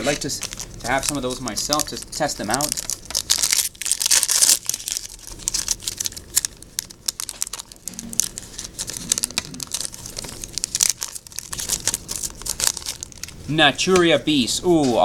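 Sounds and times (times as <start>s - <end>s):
card crinkling: 0.0s - 13.4s.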